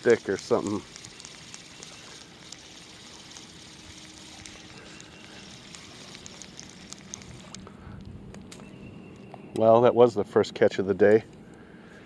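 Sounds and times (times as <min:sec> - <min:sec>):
faint outdoor noise: 0:00.0 - 0:12.0.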